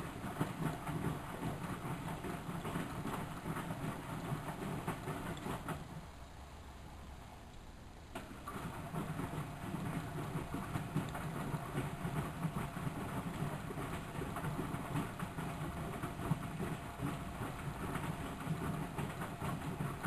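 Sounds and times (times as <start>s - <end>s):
washing machine drum rattling: 0.0s - 6.0s, 8.2s - 20.0s
washing machine motor hum: 0.0s - 7.4s, 8.0s - 20.0s.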